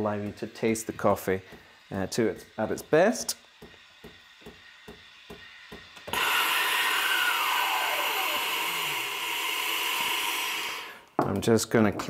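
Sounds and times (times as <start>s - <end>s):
espresso machine steam wand hissing: 0.0s - 11.2s.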